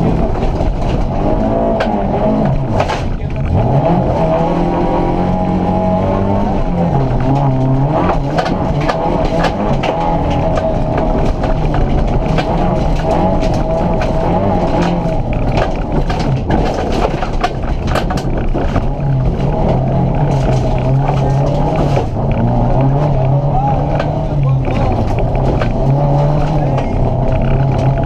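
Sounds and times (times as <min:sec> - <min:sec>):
gravel striking car underside: 0:00.0 - 0:04.3, 0:06.2 - 0:28.0
car engine revving: 0:00.0 - 0:28.0.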